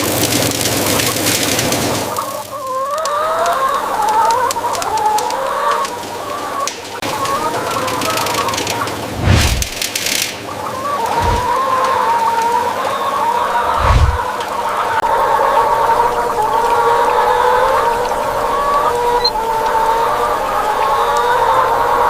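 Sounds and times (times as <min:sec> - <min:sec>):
hens clucking and cackling: 0:00.8 - 0:09.4, 0:10.4 - 0:22.0.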